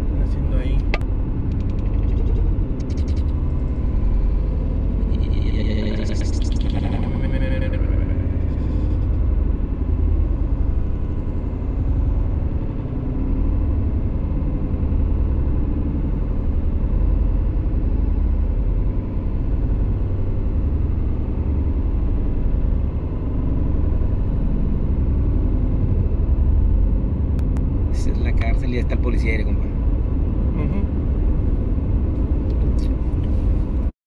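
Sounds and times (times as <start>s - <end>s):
car interior highway rumble: 0.0s - 33.9s.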